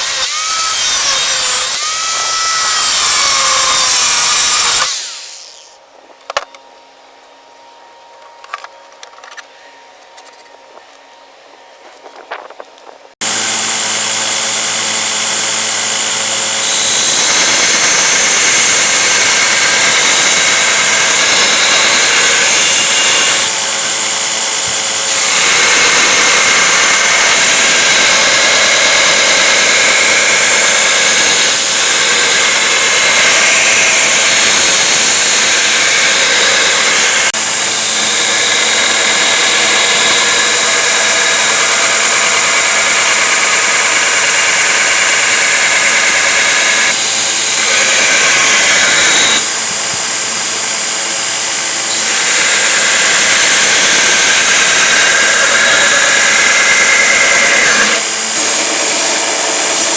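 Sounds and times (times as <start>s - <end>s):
power tool whining on steel: 0.0s - 6.5s, 13.2s - 59.9s.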